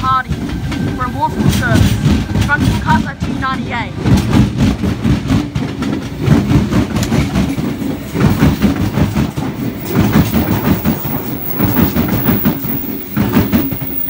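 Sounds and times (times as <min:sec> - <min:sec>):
wheels clattering over rail joints: 0:00.0 - 0:14.0.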